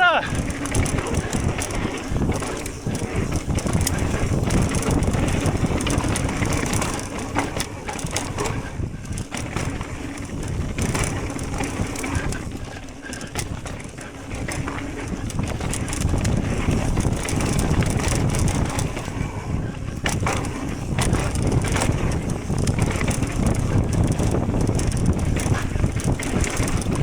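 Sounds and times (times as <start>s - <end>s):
bike rattling clicks and knocks: 0.0s - 27.0s
bike tyres crunching over dirt: 0.0s - 27.0s.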